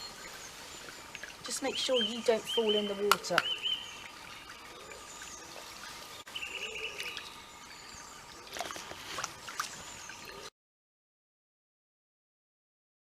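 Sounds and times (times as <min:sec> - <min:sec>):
stream trickling: 0:00.0 - 0:10.5.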